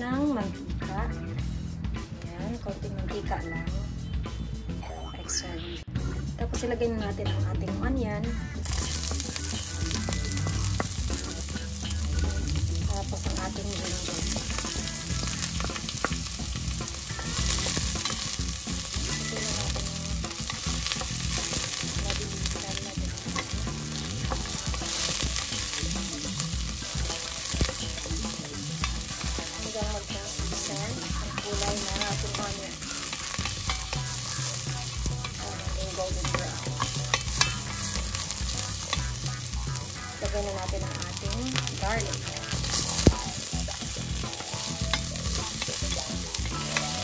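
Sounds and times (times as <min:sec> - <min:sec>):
onion sizzling in hot oil: 0:08.5 - 0:47.0
wooden spoon scraping and tapping pot: 0:08.7 - 0:47.0.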